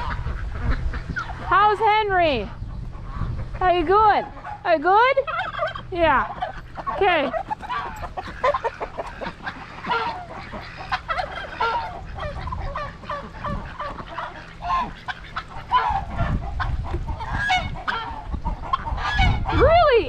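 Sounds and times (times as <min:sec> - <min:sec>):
geese honking: 0:00.0 - 0:20.0
poultry calling: 0:00.0 - 0:20.0
wind rumbling on microphone: 0:00.0 - 0:20.0.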